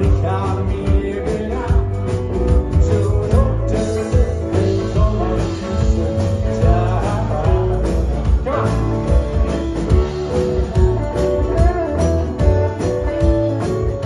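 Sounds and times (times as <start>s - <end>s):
heavy bass line: 0.0s - 14.0s
live band playing: 0.0s - 14.0s
steady drum beat: 0.0s - 14.0s.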